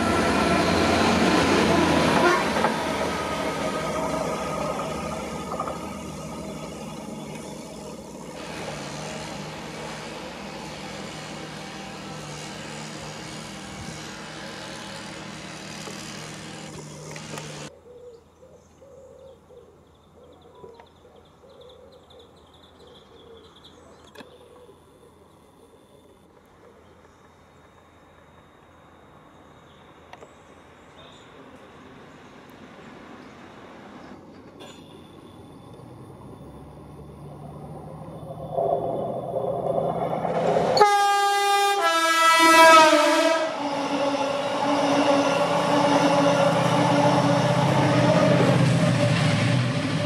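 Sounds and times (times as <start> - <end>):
train passing and rumbling: 0.0 - 17.7, 27.0 - 50.0.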